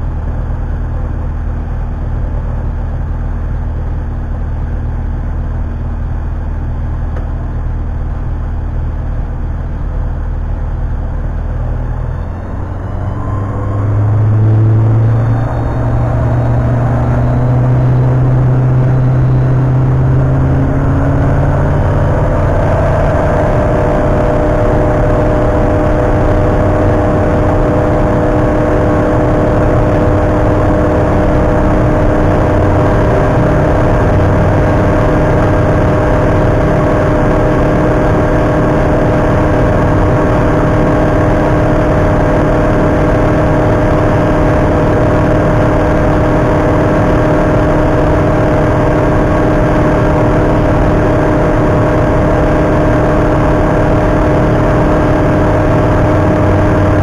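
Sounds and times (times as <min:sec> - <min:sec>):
aircraft engine and propeller: 0:00.0 - 0:57.0.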